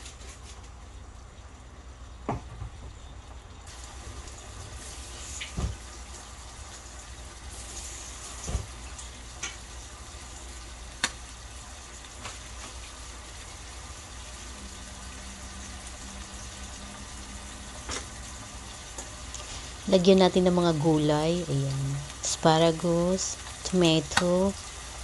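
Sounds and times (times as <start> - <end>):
steak sizzling in pan: 3.7 - 25.0.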